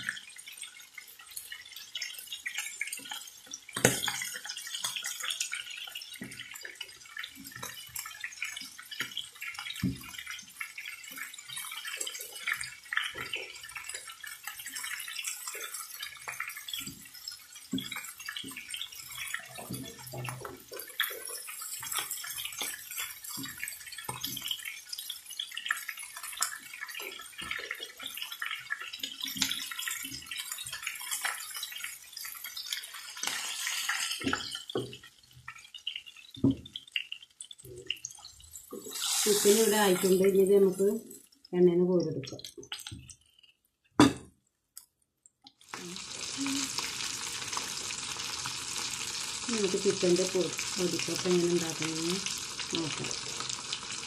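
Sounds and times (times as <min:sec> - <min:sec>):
chicken frying in oil: 0:00.0 - 0:44.0, 0:45.5 - 0:54.0.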